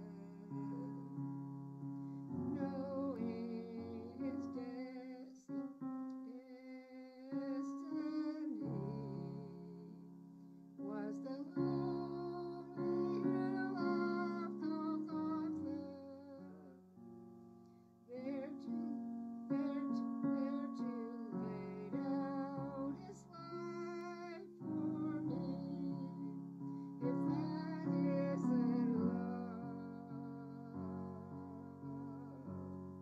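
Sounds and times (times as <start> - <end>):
elderly woman singing a hymn: 0.0 - 1.2, 2.4 - 10.0, 10.8 - 16.6, 18.1 - 26.4, 27.0 - 32.5
piano chords: 0.0 - 33.0.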